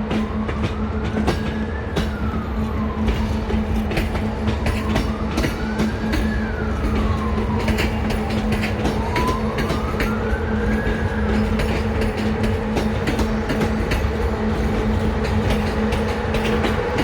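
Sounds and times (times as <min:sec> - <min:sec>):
train hum and whine: 0:00.0 - 0:17.0
train wheels clicking over rails: 0:00.0 - 0:17.0.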